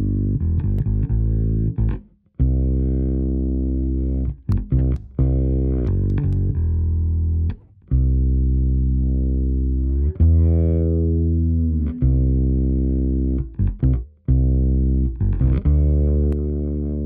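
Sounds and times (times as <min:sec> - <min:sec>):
fretless bass guitar notes: 0:00.0 - 0:17.0.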